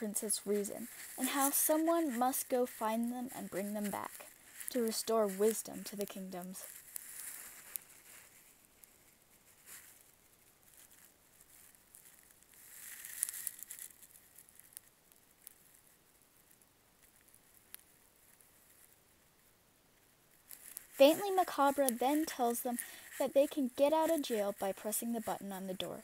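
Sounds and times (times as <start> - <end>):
faint rustling: 0.0 - 26.0.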